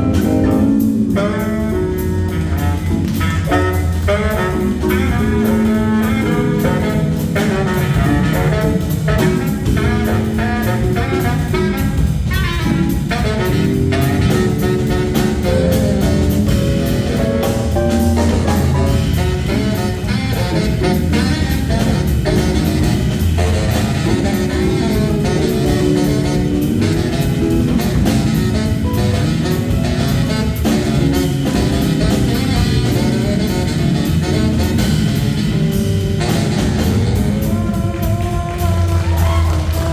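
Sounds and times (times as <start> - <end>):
drum kit with cymbals: 0.0 - 39.9
saxophone line: 0.0 - 39.9.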